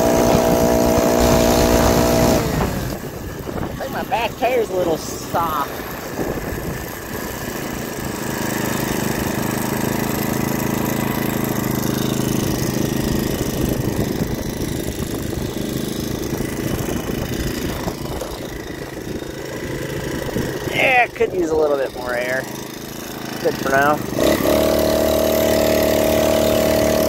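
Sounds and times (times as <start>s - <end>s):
small motorbike engine running: 0.0s - 27.0s.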